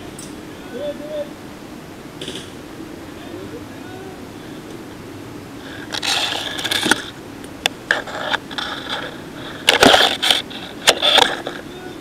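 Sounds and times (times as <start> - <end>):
rustling through undergrowth: 0.0 - 12.0.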